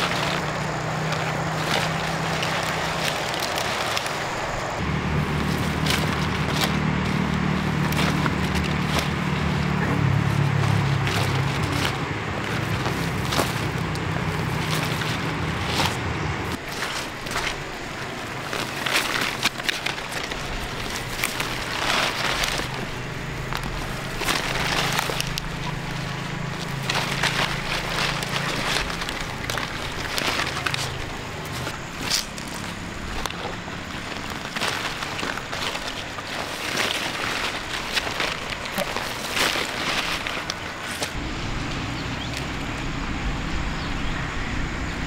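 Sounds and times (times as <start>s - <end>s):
roots tearing from soil: 0.0s - 42.8s
leaves rustling: 0.0s - 45.0s
low engine hum: 0.0s - 45.0s.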